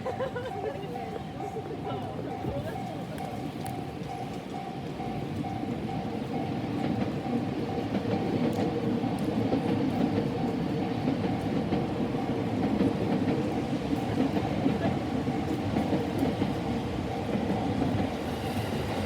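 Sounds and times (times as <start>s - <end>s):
train rumbling and clattering: 0.0s - 19.0s.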